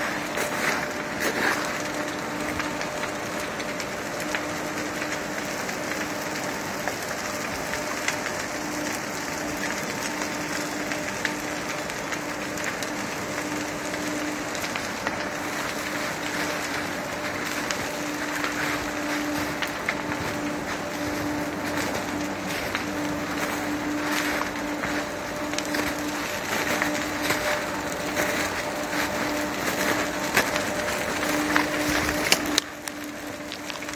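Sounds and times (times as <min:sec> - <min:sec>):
fire crackling and popping: 0:00.0 - 0:33.9.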